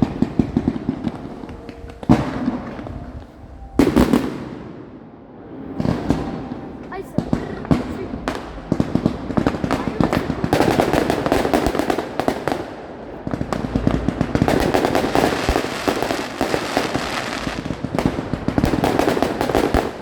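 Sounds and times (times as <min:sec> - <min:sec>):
fireworks crackling bangs: 0:00.0 - 0:05.0, 0:05.6 - 0:20.0.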